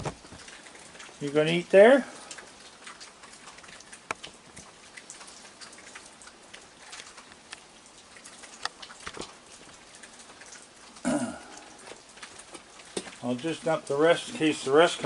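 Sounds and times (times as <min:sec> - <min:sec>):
irregular drips and ticks: 0:00.0 - 0:15.0
rain hissing: 0:00.0 - 0:15.0.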